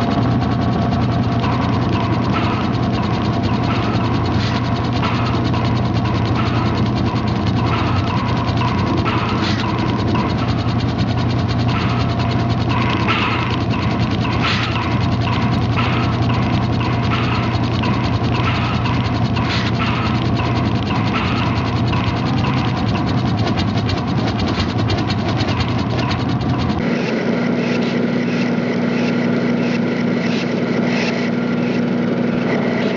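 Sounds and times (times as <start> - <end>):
low machine hum: 0.0 - 32.9
machine gears clicking: 0.0 - 32.9.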